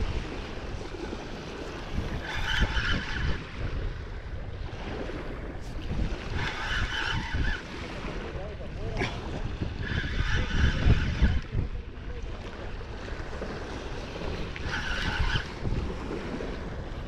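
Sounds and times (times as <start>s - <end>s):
lapping waves: 0.0s - 17.0s
wind buffeting microphone: 0.0s - 17.0s
fishing reel whirring: 0.1s - 4.4s, 5.3s - 8.3s, 9.0s - 17.0s.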